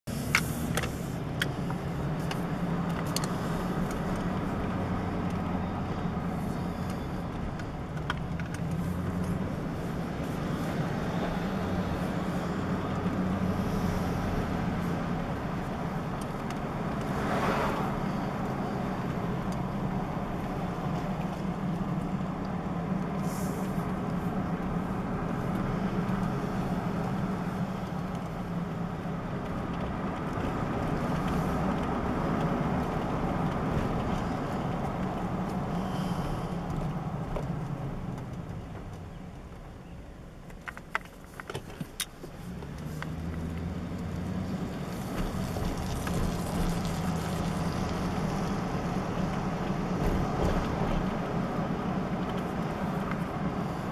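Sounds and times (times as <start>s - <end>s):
engine and tyre hum: 0.0s - 53.9s.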